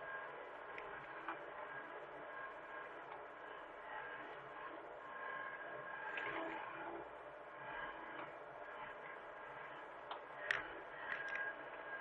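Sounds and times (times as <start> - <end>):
excavator diesel engine running: 0.0 - 12.0
faint steady whine: 0.0 - 12.0.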